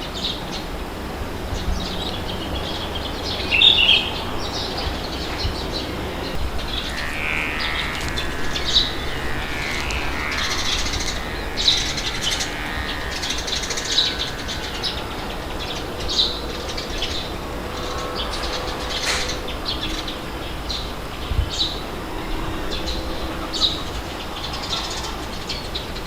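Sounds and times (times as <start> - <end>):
birds chirping: 0.0 - 26.0
wind rushing: 0.0 - 26.0.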